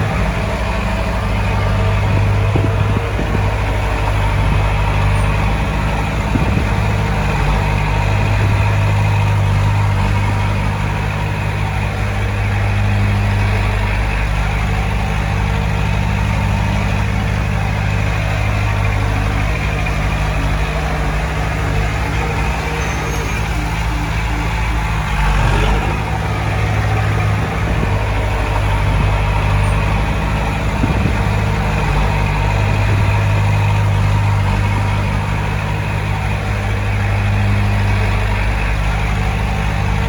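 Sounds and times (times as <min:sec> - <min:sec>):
heavy diesel engine humming: 0:00.0 - 0:40.0.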